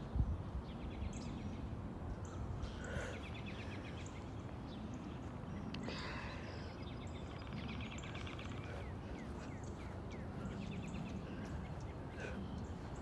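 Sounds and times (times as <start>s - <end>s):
songbirds chirping and trilling: 0.0s - 13.0s
wind buffeting microphone: 0.0s - 13.0s.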